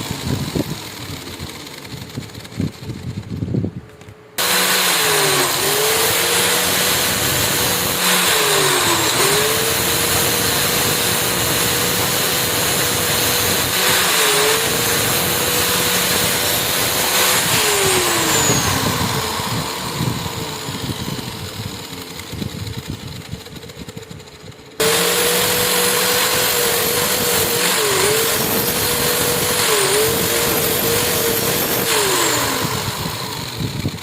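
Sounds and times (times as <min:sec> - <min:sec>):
power tool spinning down: 0:00.0 - 0:03.6, 0:04.4 - 0:34.0
power tool motor whining: 0:00.0 - 0:34.0.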